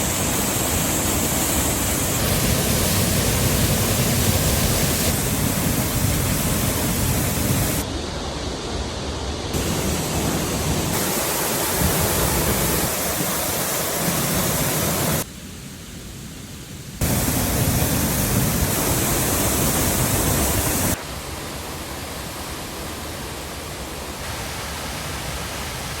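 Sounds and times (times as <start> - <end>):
waterfall rushing: 0.0 - 15.3, 17.0 - 26.0.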